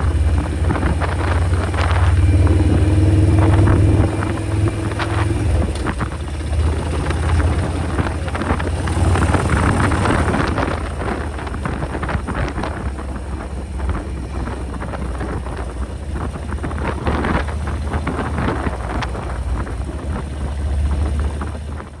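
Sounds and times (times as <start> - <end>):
motorcycle engine throbbing: 0.0 - 22.0
wind noise on microphone: 0.0 - 22.0.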